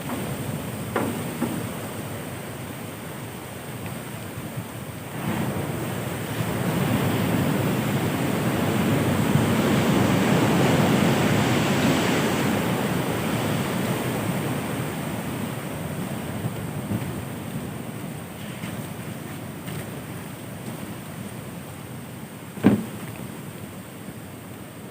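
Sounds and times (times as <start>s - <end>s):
ocean wave breaking: 0.0s - 24.4s.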